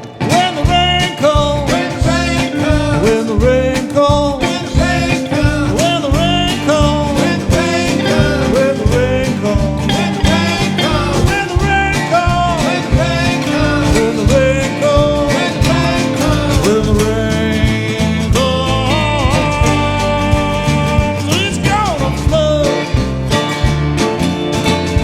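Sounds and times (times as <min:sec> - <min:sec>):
country-rock band playing: 0:00.0 - 0:25.0
lead guitar sliding notes: 0:00.0 - 0:25.0.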